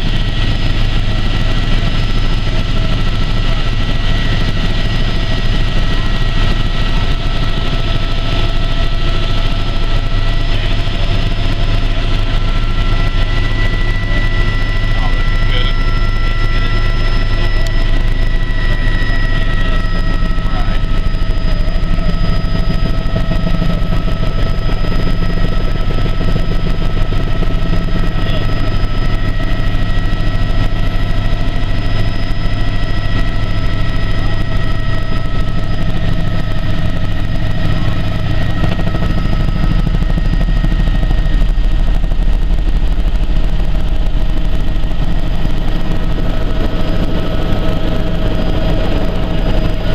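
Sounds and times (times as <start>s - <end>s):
helicopter rotor and engine drone: 0.0s - 49.9s
high whine: 0.0s - 49.9s.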